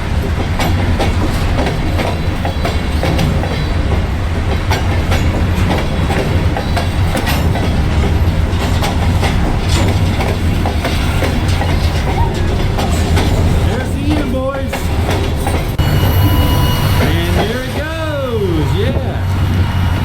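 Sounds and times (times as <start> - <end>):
wheels clicking over rail joints: 0.0 - 19.9
train rumbling past: 0.0 - 20.0.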